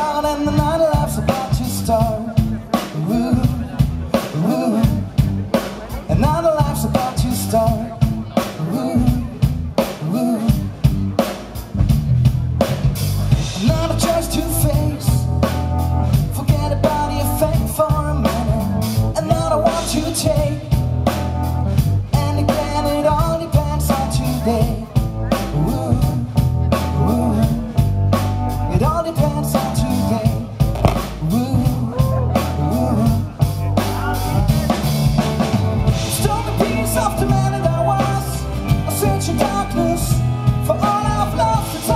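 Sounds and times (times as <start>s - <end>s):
man singing: 0.0s - 11.3s, 13.3s - 21.2s, 21.8s - 41.9s
drum kit beat: 0.0s - 41.9s
electric bass: 0.0s - 41.9s.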